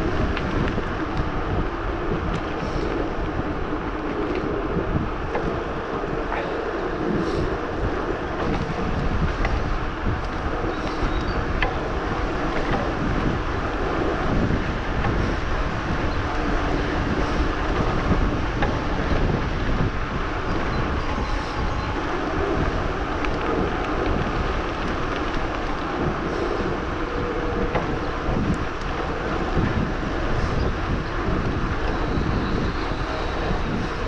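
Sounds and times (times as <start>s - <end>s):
bike tyre and drivetrain noise: 0.0s - 34.0s
wind on microphone: 0.0s - 34.0s.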